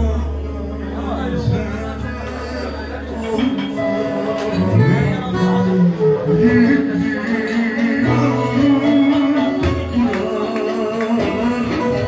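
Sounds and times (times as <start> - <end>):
live band playing: 0.0 - 12.0
man singing: 0.0 - 12.0.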